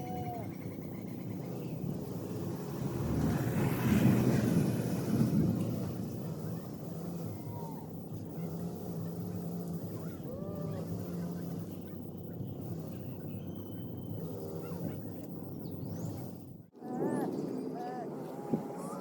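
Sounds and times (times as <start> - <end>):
birds calling: 0.0 - 3.4, 6.2 - 19.0.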